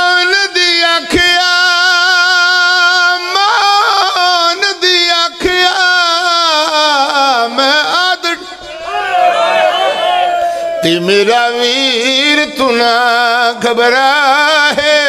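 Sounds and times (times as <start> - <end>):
man singing into a microphone: 0.0 - 8.9, 10.8 - 15.0.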